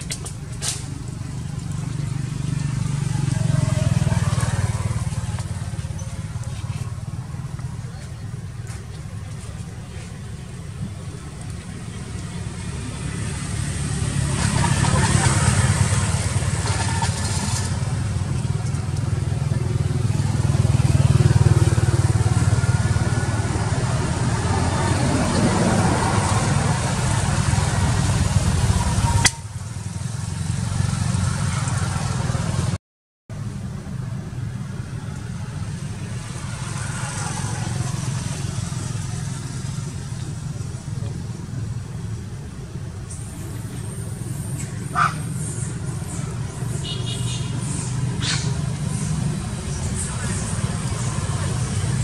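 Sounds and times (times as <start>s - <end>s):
faint voices: 0.0s - 32.8s, 33.4s - 52.0s
traffic rumble: 0.0s - 52.0s.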